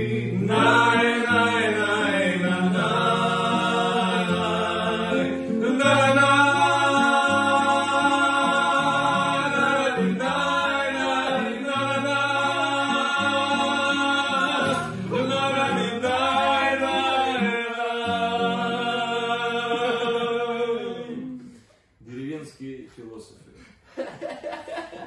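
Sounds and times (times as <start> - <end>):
men singing held notes: 0.0 - 21.6
acoustic guitar: 0.0 - 22.6.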